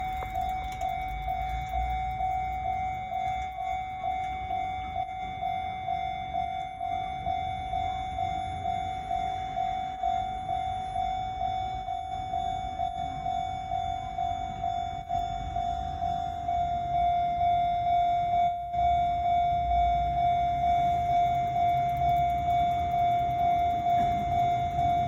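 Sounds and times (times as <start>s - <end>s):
level crossing warning bell: 0.0s - 25.0s.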